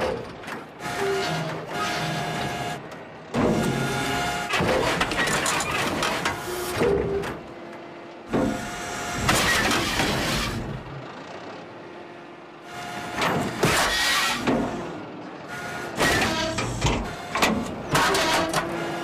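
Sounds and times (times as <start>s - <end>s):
hydraulic boom machinery: 0.0s - 11.4s, 12.6s - 19.0s
excavator engine: 0.0s - 19.0s.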